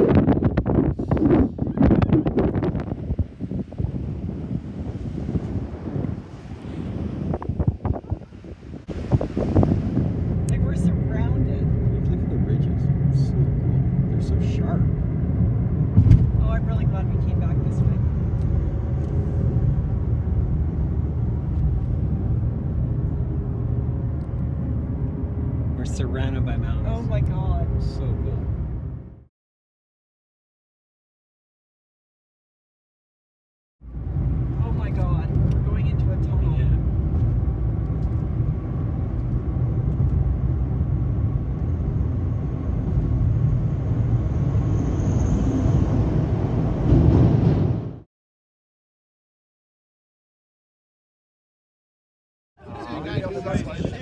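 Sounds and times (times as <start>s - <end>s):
car road and engine noise: 0.0s - 29.3s, 33.8s - 48.0s, 52.6s - 54.0s.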